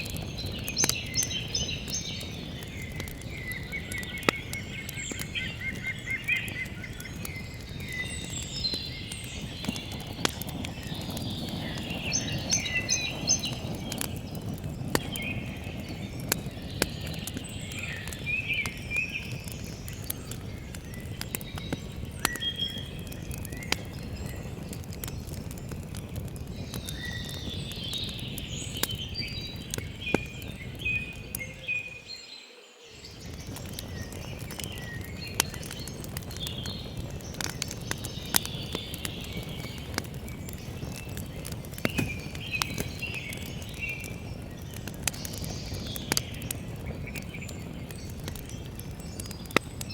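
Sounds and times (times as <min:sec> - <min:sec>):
campfire crackling and popping: 0:00.0 - 0:32.2, 0:32.9 - 0:49.9
songbirds chirping and singing: 0:00.0 - 0:49.9.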